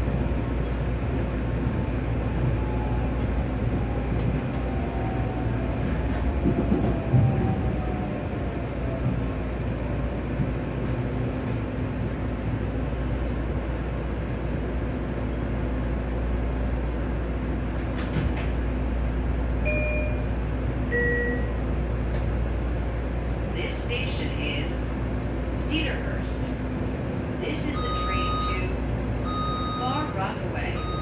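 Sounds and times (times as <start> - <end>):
train rumble and hum: 0.0 - 31.0.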